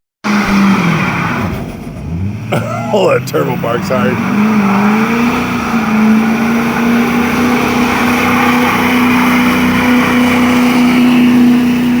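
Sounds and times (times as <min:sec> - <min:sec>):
road noise: 0:00.2 - 0:12.0
truck engine droning: 0:00.2 - 0:12.0.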